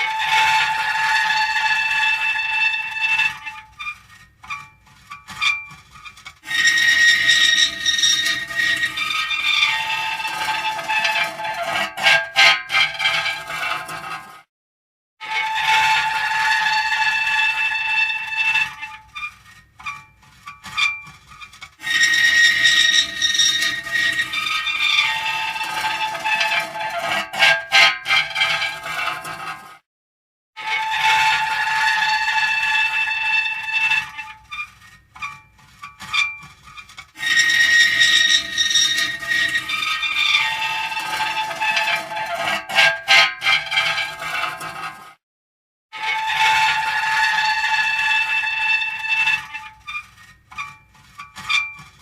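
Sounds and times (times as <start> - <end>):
metal creaking and squealing: 0.0 - 14.4, 15.2 - 29.8, 30.6 - 45.2, 46.0 - 52.0.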